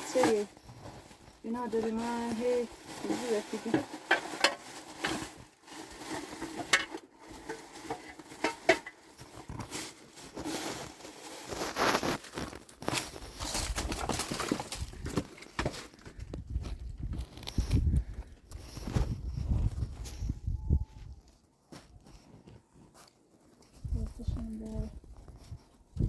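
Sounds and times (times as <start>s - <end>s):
rustling: 0.0s - 26.0s.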